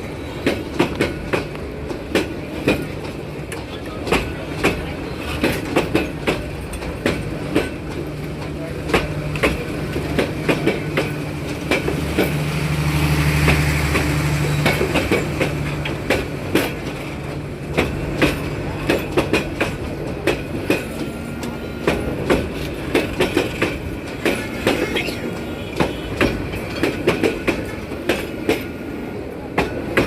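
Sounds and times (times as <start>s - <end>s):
train wheels clicking over rail joints: 0.0s - 30.0s.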